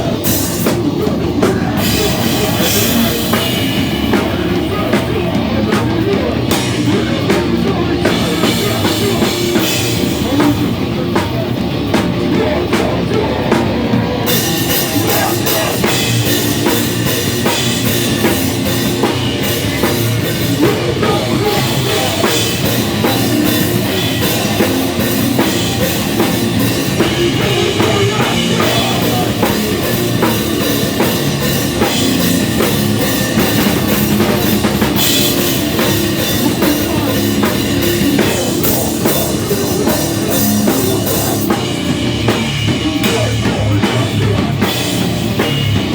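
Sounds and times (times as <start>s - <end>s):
drum kit: 0.0s - 45.9s
live rock band playing: 0.0s - 45.9s.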